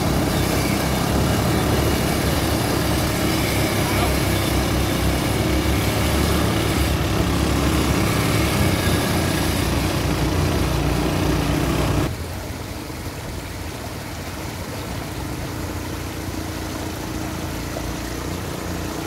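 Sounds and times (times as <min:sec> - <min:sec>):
quad bike engines running: 0:00.0 - 0:19.0
stream flowing: 0:00.0 - 0:19.0.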